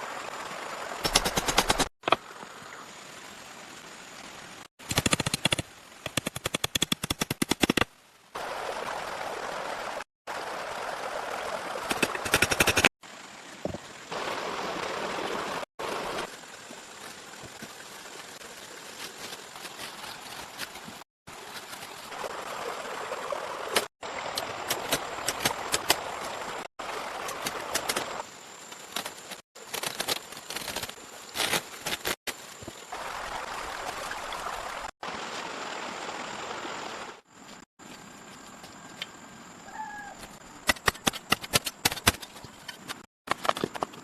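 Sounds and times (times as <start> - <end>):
running water rushing: 0.0 - 29.4, 31.0 - 37.7.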